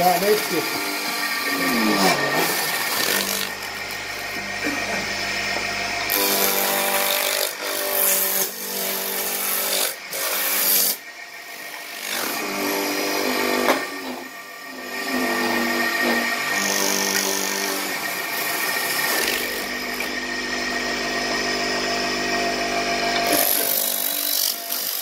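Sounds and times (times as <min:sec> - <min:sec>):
lathe motor humming: 0:00.0 - 0:25.0
turning tool cutting wood: 0:00.0 - 0:25.0.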